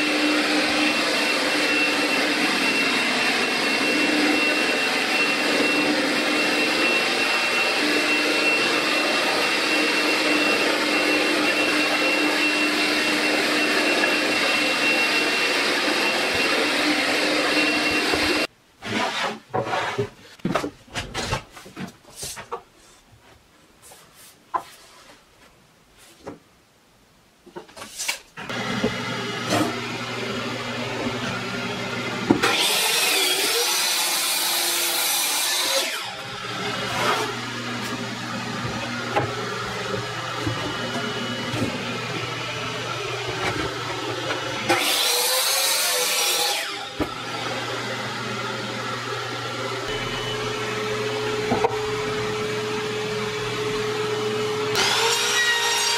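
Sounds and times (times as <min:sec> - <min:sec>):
dust extractor humming: 0:00.0 - 0:18.5, 0:28.5 - 0:55.9
miter saw cutting wood: 0:00.0 - 0:18.5, 0:28.5 - 0:55.9.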